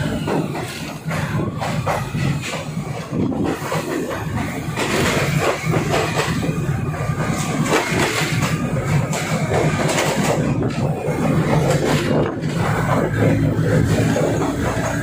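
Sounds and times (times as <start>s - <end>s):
wheels and carriage rattling: 0.0s - 15.0s.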